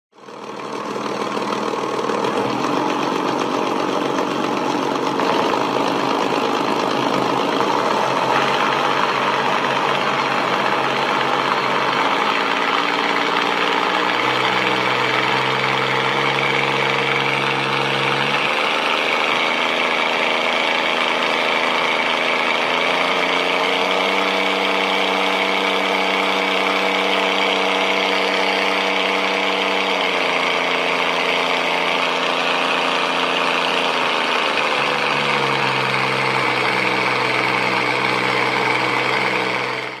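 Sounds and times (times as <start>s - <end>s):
light aircraft propeller engine: 0.2s - 40.0s.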